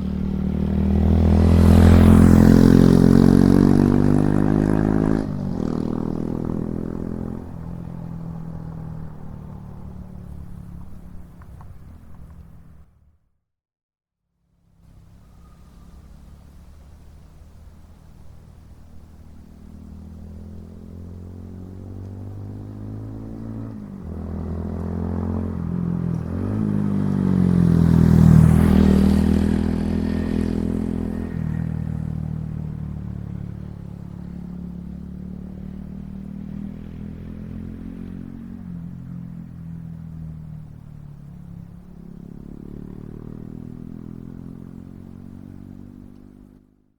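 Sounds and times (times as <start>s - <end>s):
motorcycle engine riding past: 0.0s - 13.2s, 14.5s - 46.9s.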